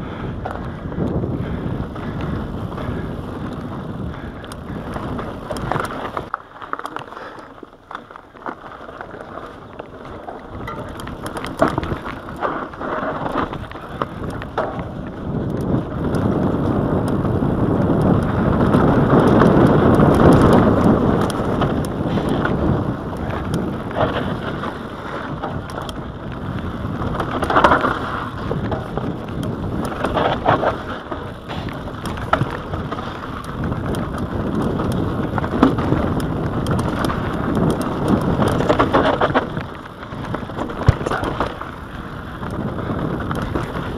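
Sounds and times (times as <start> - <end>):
wind rushing on microphone: 0.0 - 6.3, 9.3 - 43.9
bike rattling and knocking: 0.0 - 43.9
tyres rumbling over dirt: 0.0 - 43.9.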